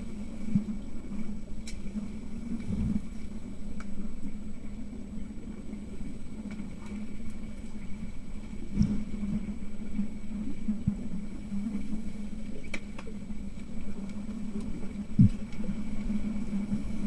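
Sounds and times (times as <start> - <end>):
faint underwater clicks and knocks: 0.0 - 17.0
muffled underwater rumble: 0.0 - 17.0.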